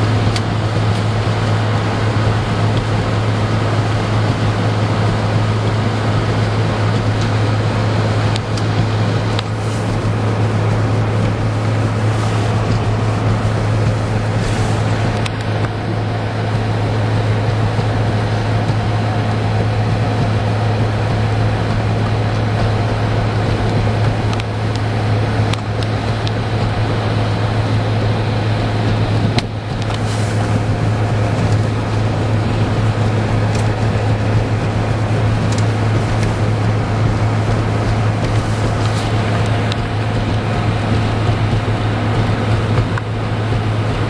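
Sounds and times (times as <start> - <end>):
car engine and road drone: 0.0 - 44.0
wind: 0.0 - 44.0.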